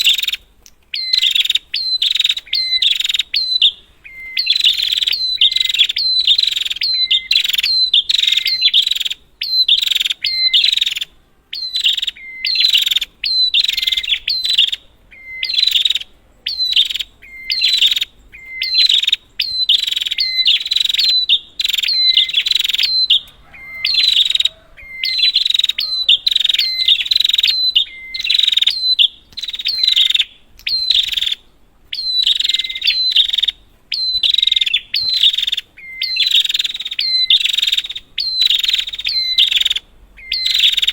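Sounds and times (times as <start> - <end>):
bird harsh rapid chattering: 0.0 - 14.8, 15.4 - 31.4, 32.0 - 40.9.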